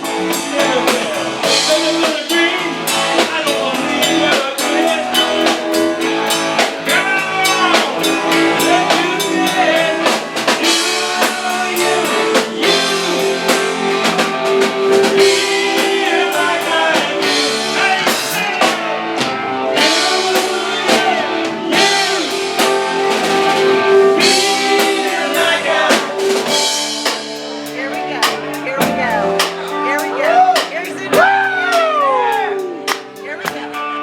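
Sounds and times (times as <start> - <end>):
drum kit beat: 0.0 - 34.0
guitar: 0.0 - 34.0
person singing: 0.0 - 34.0
rock band playing: 0.0 - 34.0.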